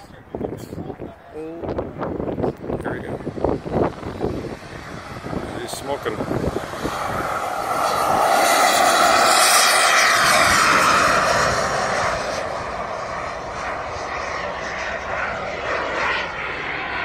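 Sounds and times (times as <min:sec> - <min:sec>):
model jet turbine whine: 0:02.0 - 0:17.0.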